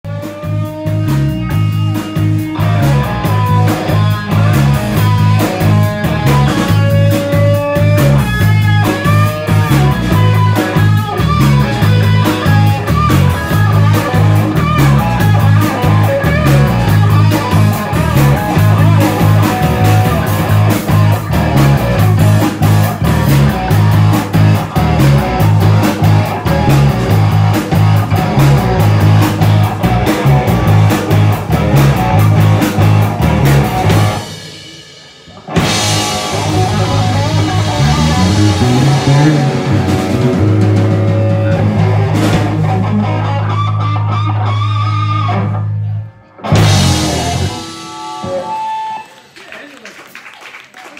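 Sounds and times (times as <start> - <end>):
bass guitar line: 0.0 - 49.4
electric guitar lead: 0.0 - 49.4
drum kit: 0.0 - 50.2.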